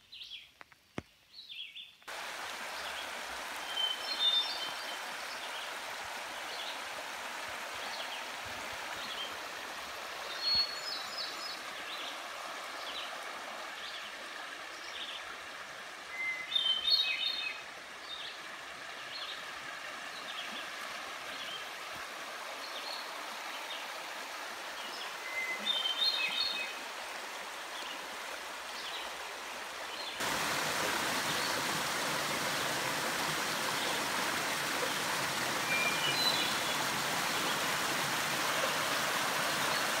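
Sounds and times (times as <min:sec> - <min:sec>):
stream rushing over rocks: 0:02.1 - 0:40.0.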